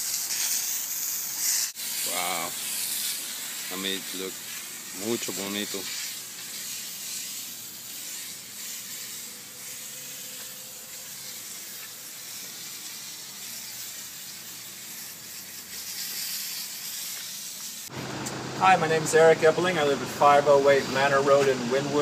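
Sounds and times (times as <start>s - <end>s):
high-pitched hiss: 0.0s - 17.9s.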